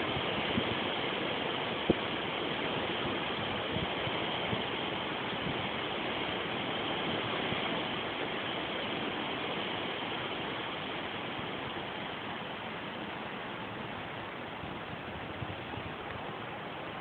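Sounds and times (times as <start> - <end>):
wind blowing through trees: 0.0 - 17.0.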